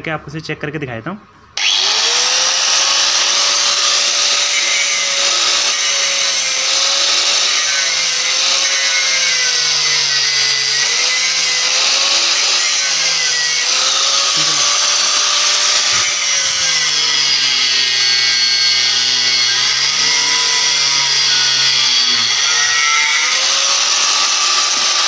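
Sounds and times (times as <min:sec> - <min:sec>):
angle grinder cutting metal: 0:01.6 - 0:25.0.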